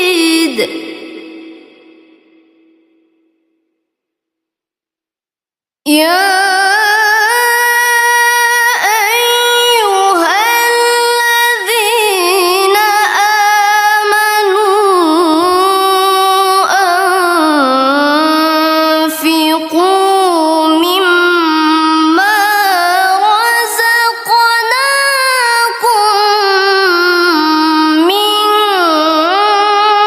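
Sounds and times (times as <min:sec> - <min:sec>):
high voice reciting melodically: 0:00.0 - 0:02.2, 0:05.9 - 0:30.0.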